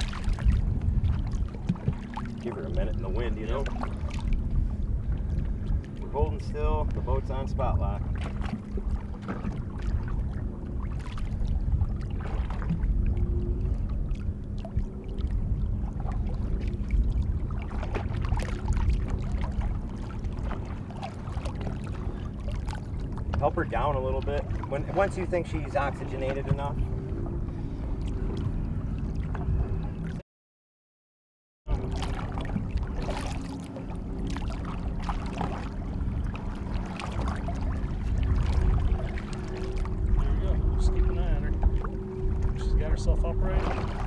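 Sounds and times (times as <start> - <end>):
boat humming: 0.0 - 30.2, 31.7 - 44.0
low wind rumble: 0.0 - 30.2, 31.7 - 44.0
water splashing against boat: 0.0 - 30.2, 31.7 - 44.0.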